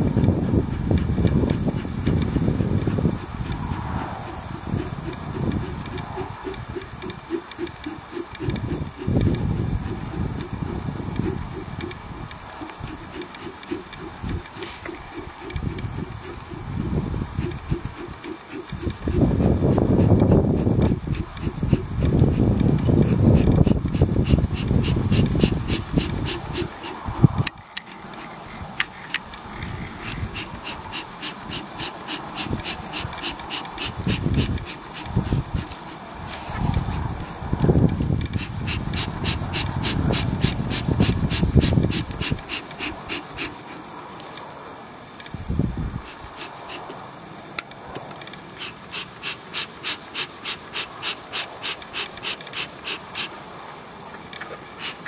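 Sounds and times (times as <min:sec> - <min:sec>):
bellows puffing air: 0:00.0 - 0:44.1, 0:45.4 - 0:47.2, 0:48.4 - 0:53.8, 0:54.4 - 0:55.0.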